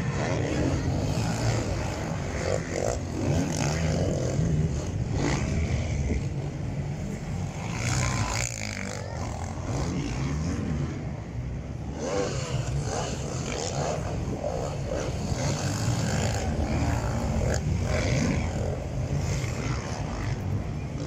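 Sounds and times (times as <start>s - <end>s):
quad engines revving: 0.0s - 21.0s.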